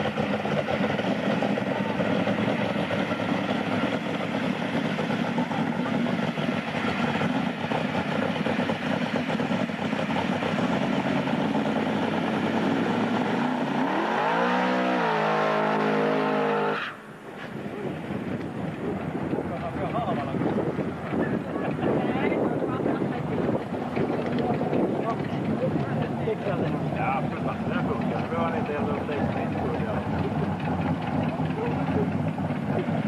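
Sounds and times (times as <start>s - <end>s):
drag car engine revving: 0.0s - 22.0s, 23.1s - 33.0s.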